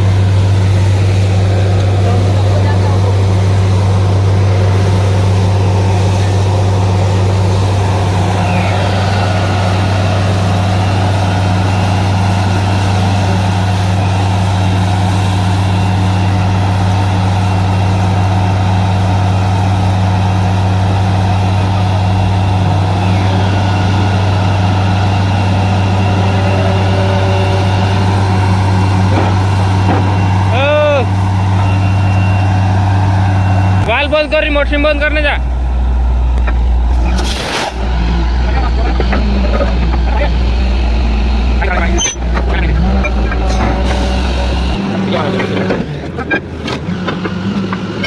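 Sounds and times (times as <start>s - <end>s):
drilling rig engine drone: 0.0s - 48.0s.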